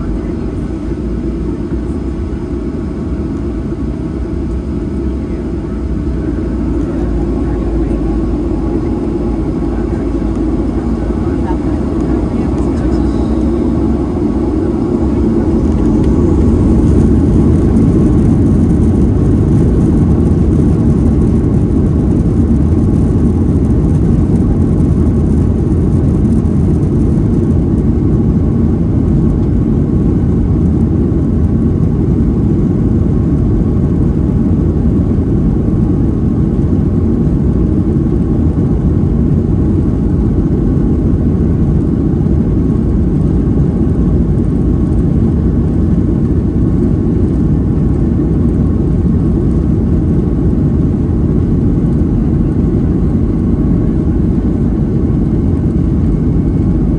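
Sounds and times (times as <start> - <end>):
jet cabin engine rumble: 0.0 - 56.9.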